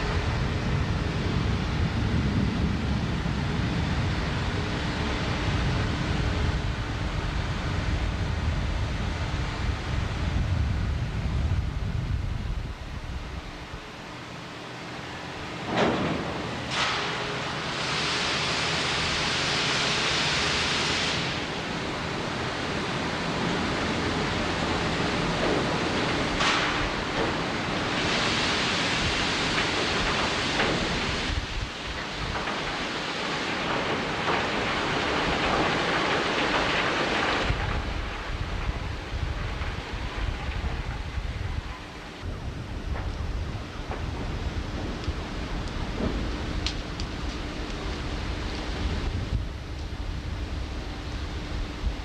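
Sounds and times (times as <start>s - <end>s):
industrial roar: 0.0s - 52.0s.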